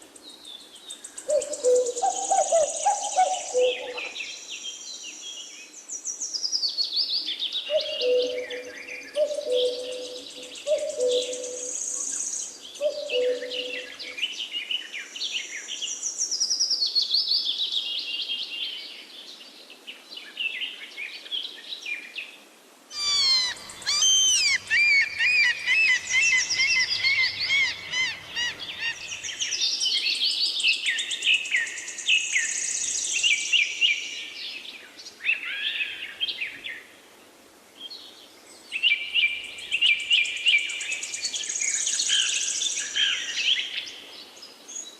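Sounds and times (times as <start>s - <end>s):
songbirds singing: 0.0s - 22.2s, 22.9s - 36.9s.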